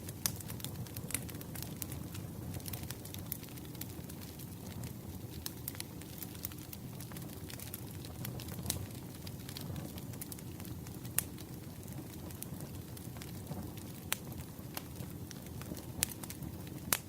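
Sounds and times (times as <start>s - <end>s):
campfire burning rush: 0.0s - 17.0s
sharp fire pops: 0.0s - 17.0s.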